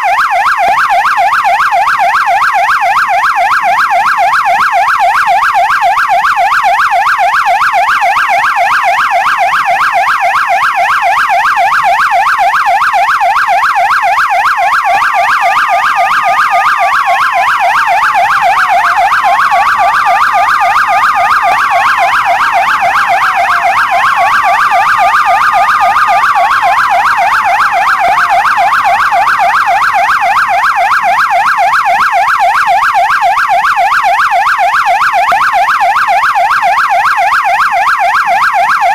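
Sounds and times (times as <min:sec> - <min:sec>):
police siren fast yelp: 0:00.0 - 0:38.9
siren slow wail: 0:00.0 - 0:38.9.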